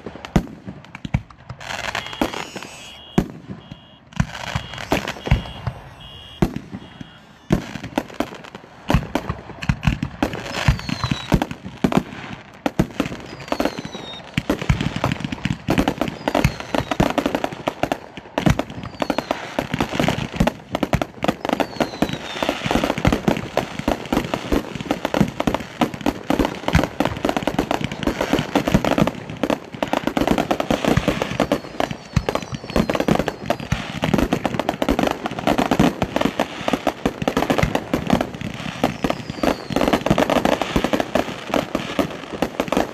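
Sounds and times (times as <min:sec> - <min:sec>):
fireworks falling whistles: 0:00.0 - 0:12.2, 0:12.8 - 0:42.9
fireworks launching and bursting: 0:00.0 - 0:42.9.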